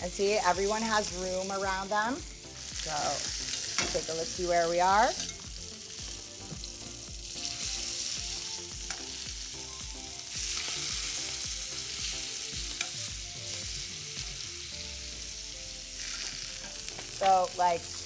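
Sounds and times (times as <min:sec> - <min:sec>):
scallops sizzling in hot oil: 0:00.0 - 0:18.0.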